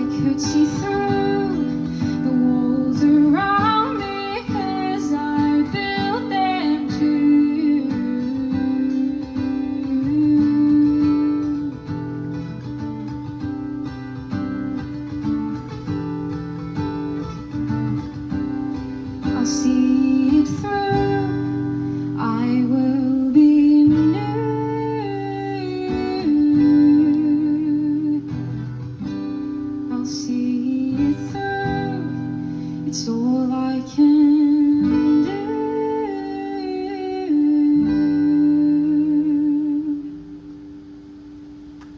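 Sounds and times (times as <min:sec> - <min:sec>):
woman singing: 0:00.0 - 0:13.3, 0:18.4 - 0:28.8, 0:29.7 - 0:40.4
acoustic guitar strumming: 0:00.0 - 0:41.9.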